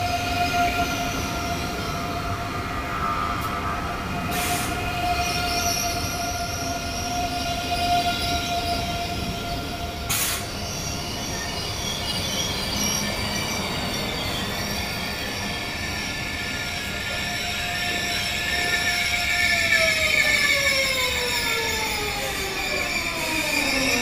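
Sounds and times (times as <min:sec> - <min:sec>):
high-speed train whining past: 0:00.0 - 0:24.0.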